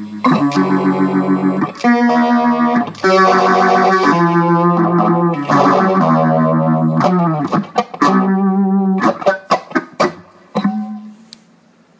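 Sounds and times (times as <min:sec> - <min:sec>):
electric guitar chords: 0:00.0 - 0:11.3.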